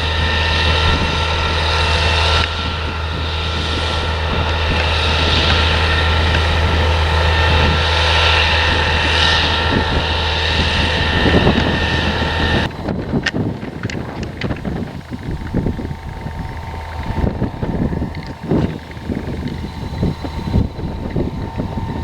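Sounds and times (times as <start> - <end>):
heavy machinery engine droning: 0.0 - 22.0.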